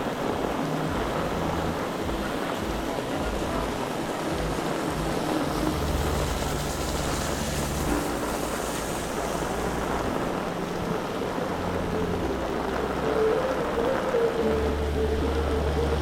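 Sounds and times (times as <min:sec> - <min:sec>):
heavy rain: 0:00.0 - 0:16.0
wind on microphone: 0:00.0 - 0:16.0.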